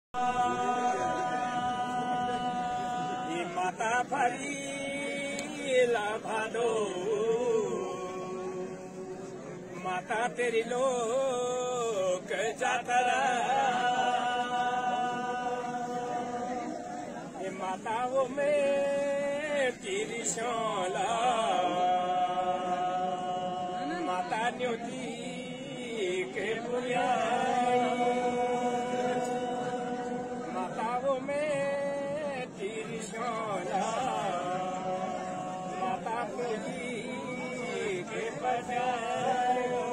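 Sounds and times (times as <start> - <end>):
men singing unaccompanied: 0.1 - 39.9.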